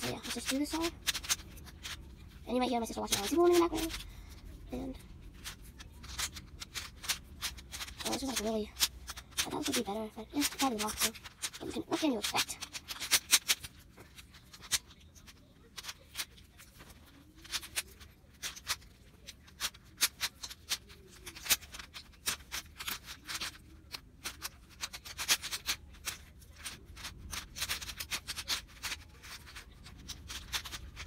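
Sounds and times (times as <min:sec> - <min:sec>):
puzzle cube layers clicking: 0:00.0 - 0:02.1, 0:02.8 - 0:04.0, 0:05.3 - 0:31.0.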